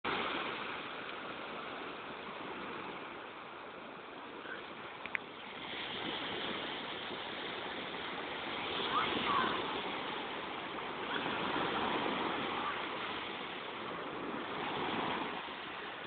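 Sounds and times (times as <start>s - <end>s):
waves washing on beach: 0.0s - 16.0s.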